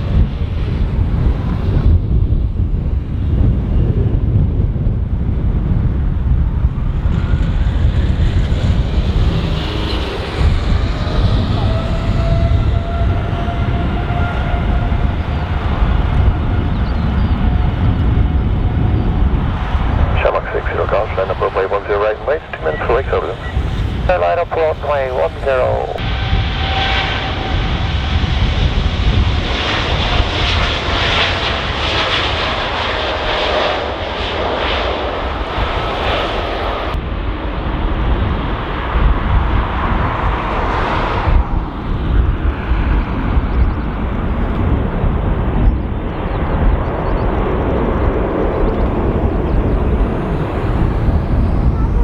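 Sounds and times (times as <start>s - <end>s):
jet engines at takeoff power: 0.0s - 52.0s.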